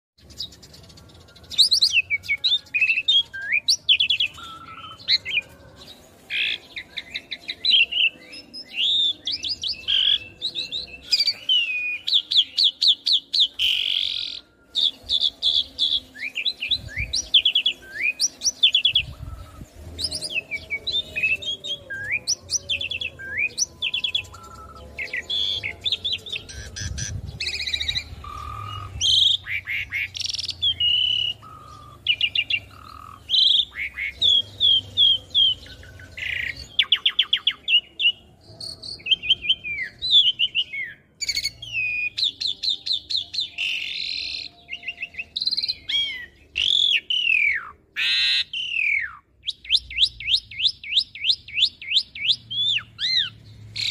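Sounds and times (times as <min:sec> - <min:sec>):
starling singing: 0:00.2 - 0:53.9.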